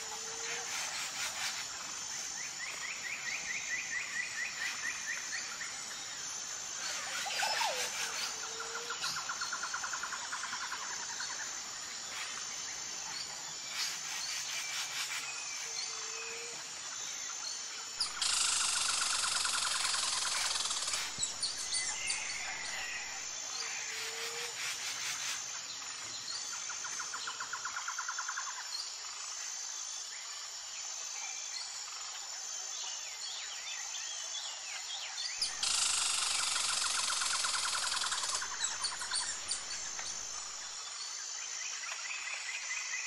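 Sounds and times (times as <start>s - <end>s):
background hiss: 0.0s - 42.8s
faint high insect-like chirping: 0.0s - 43.0s.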